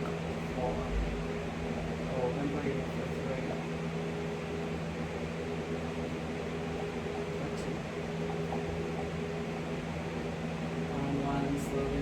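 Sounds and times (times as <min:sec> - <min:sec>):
electric fan running: 0:00.0 - 0:12.0.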